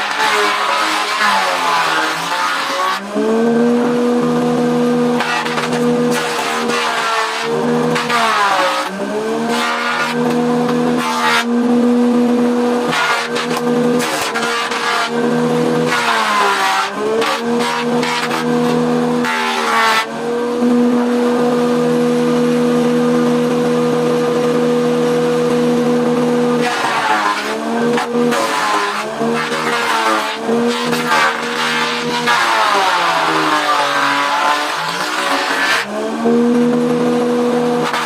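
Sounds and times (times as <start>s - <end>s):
saw blade cutting wood: 0.0s - 11.8s, 12.8s - 20.4s, 26.2s - 36.4s, 37.0s - 38.0s
bandsaw motor hum: 0.0s - 38.0s.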